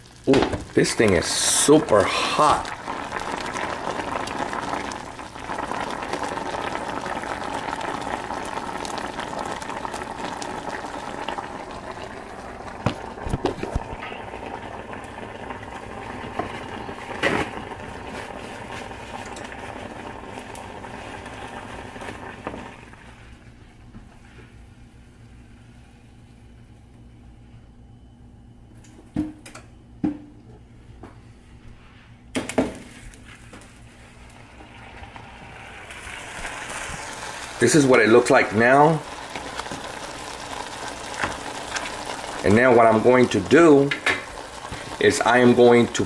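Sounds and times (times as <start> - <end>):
pot boiling with bubbling: 0.0 - 46.0.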